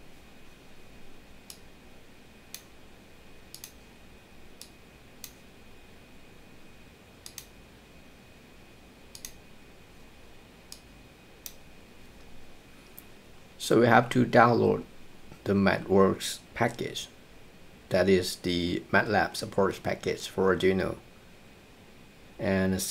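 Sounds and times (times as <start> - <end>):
faint high hum: 0.0 - 22.9.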